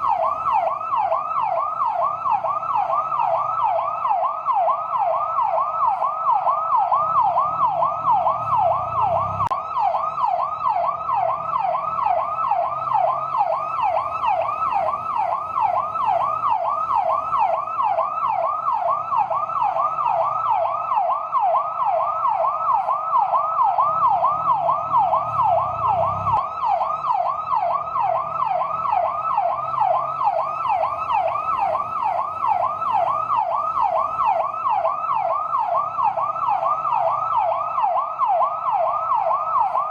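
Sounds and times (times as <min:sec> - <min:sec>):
fire truck yelp siren: 0:00.0 - 0:39.9.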